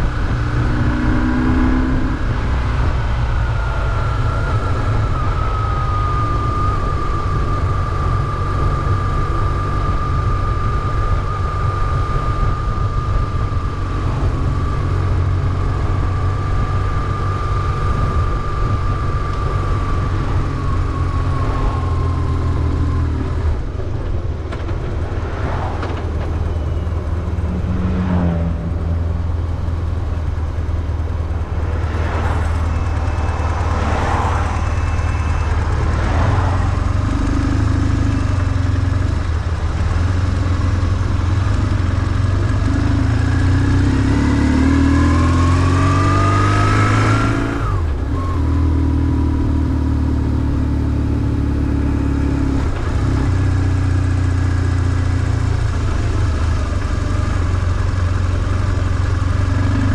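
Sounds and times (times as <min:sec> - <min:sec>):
high whine: 0:00.0 - 0:59.9
motorcycle engine drone: 0:00.0 - 0:59.9.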